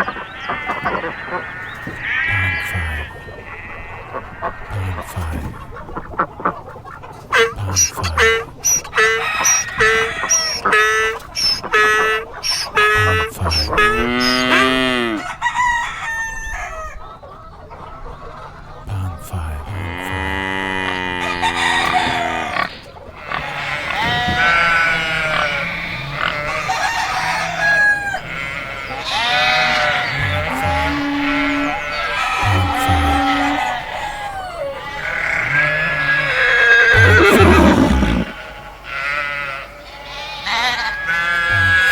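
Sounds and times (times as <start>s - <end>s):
farm animal calls: 0.0s - 41.9s.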